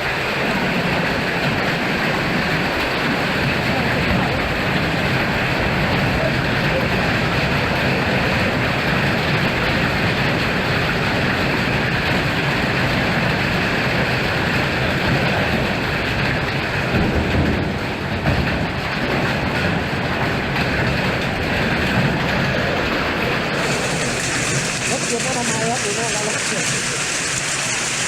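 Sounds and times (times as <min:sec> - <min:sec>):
heavy rain: 0:00.0 - 0:28.0
strong wind: 0:00.0 - 0:28.0.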